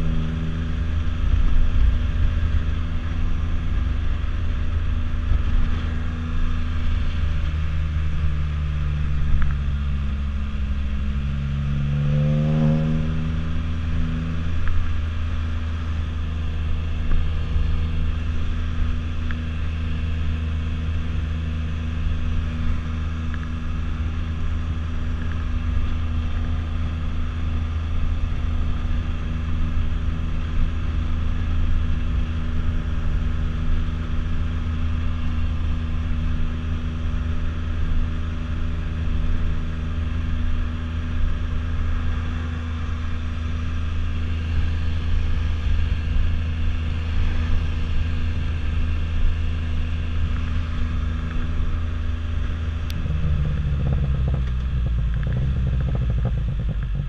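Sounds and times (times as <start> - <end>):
engine running: 0.0 - 57.0
road rumble: 0.0 - 57.0
wind: 0.0 - 57.0.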